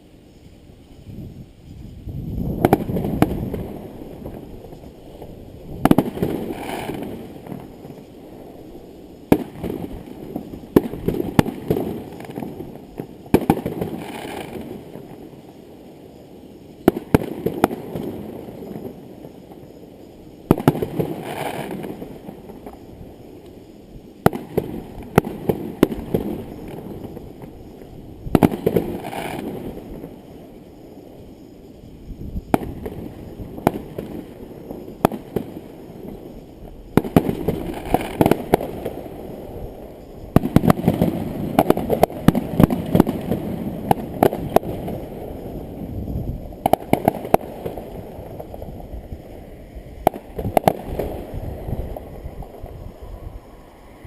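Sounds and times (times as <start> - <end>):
rumbling echo of fireworks: 1.4 - 53.5
firework shells bursting: 2.4 - 15.5, 16.7 - 31.8, 32.4 - 48.8, 50.0 - 52.6.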